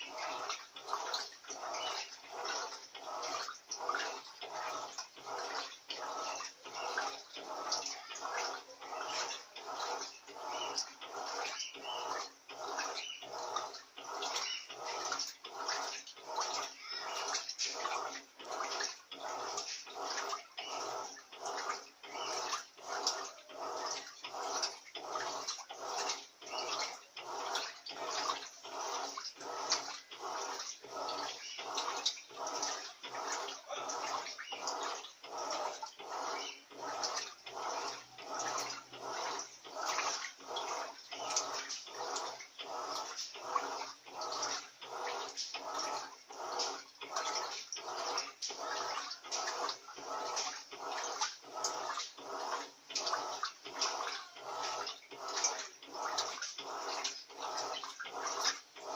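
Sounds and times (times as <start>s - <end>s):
washing machine water sloshing: 0.0s - 58.9s.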